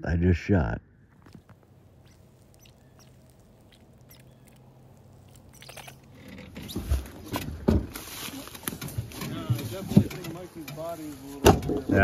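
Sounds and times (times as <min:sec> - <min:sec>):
rustling: 0:01.1 - 0:12.0.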